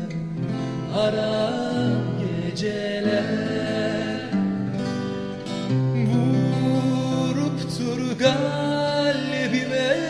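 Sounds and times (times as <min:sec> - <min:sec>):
song with wavering vocals: 0:00.0 - 0:10.0.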